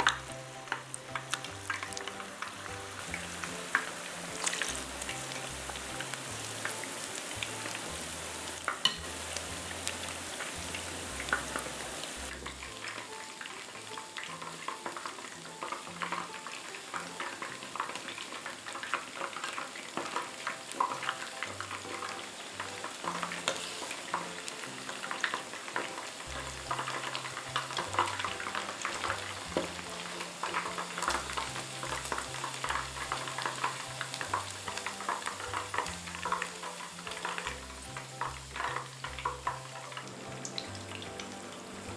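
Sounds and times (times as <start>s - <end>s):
chicken deep-frying in oil: 0.0s - 41.9s
chopsticks stirring: 0.0s - 41.9s.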